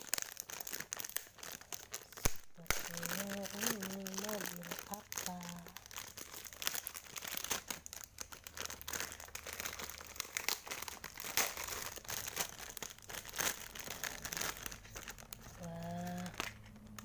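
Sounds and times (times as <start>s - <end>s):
packaging crinkling and tearing: 0.0s - 17.0s.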